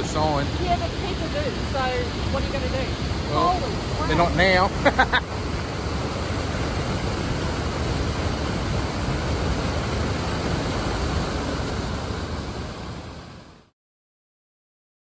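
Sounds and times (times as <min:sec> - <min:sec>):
floodwater rushing: 0:00.0 - 0:13.7.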